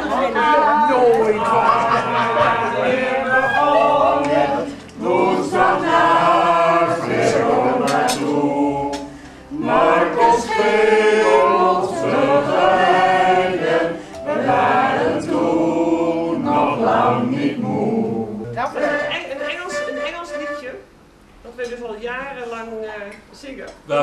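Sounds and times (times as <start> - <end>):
man and woman singing unaccompanied: 0.0 - 19.5.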